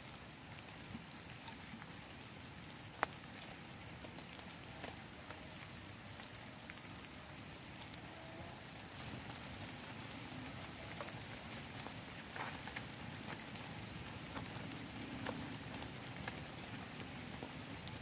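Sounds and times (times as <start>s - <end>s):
rain on a plastic tarp: 0.0s - 18.0s.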